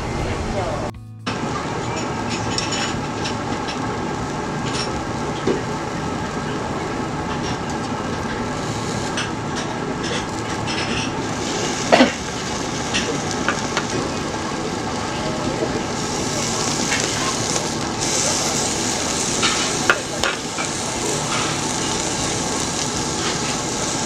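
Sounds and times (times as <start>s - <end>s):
meat sizzling on a grill: 1.9s - 24.0s.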